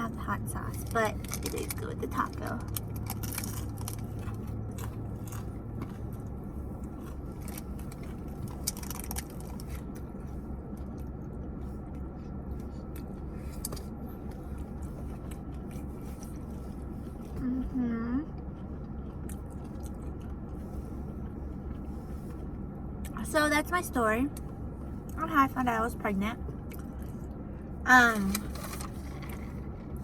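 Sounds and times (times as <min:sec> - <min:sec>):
steady low hum: 0:00.0 - 0:30.0
chewing crunchy taco shell: 0:00.7 - 0:23.2, 0:26.4 - 0:30.0.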